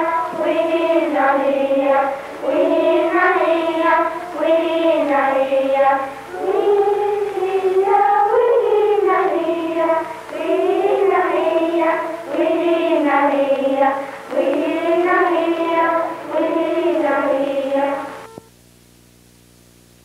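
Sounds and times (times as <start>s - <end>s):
children singing slow melody: 0.0s - 18.3s.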